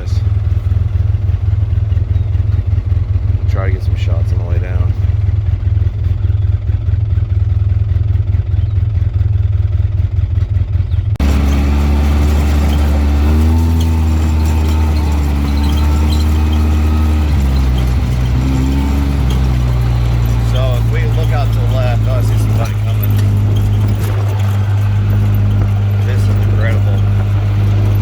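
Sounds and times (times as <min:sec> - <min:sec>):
utility vehicle engine running: 0:00.0 - 0:28.0.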